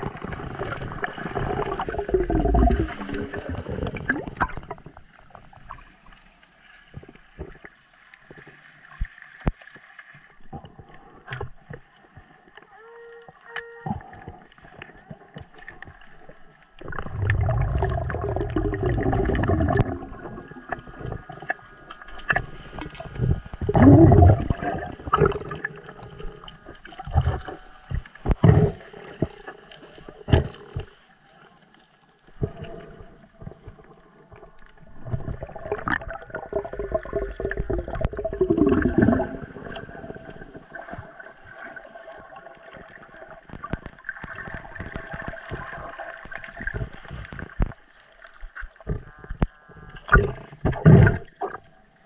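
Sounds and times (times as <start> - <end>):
underwater gurgling and bubbling: 0.0 - 6.2, 10.3 - 22.8, 23.5 - 31.2, 32.3 - 52.0.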